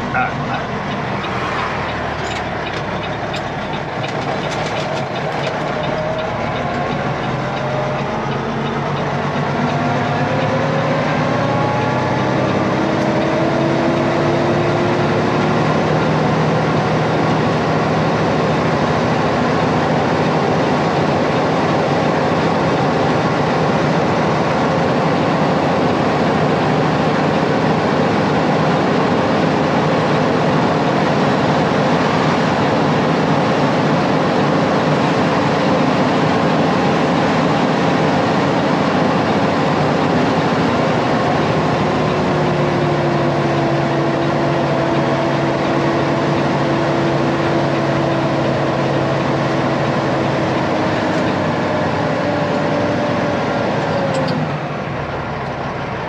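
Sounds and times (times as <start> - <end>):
road noise: 0.0 - 56.0
truck diesel engine: 0.0 - 56.0.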